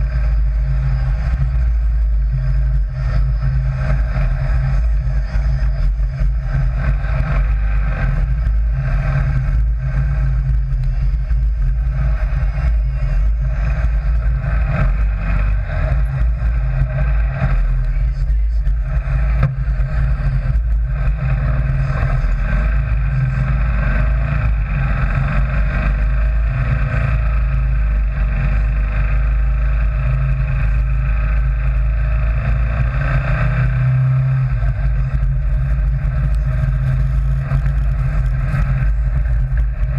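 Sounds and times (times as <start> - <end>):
dune buggy engine droning: 0.0 - 39.9.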